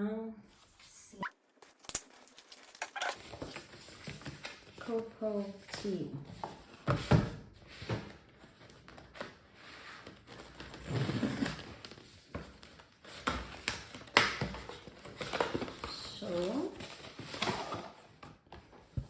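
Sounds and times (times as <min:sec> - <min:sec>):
box and packaging handled: 0:00.6 - 0:19.0.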